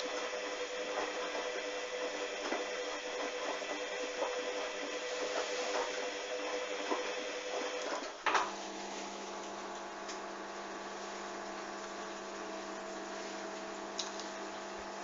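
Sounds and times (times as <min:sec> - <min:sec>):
drain pump humming: 0:00.0 - 0:15.0.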